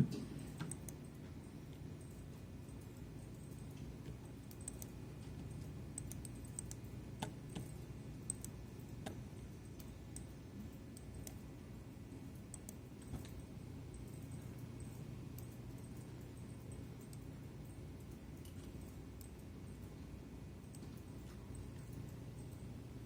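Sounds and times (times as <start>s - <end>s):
computer keys clicking: 0.0s - 11.6s, 12.2s - 22.8s
low steady hum: 0.0s - 23.0s.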